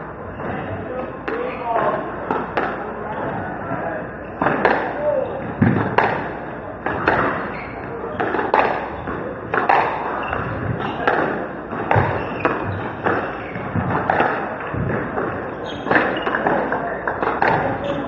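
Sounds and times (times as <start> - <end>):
squash ball hitting rackets and walls: 0.2 - 18.0.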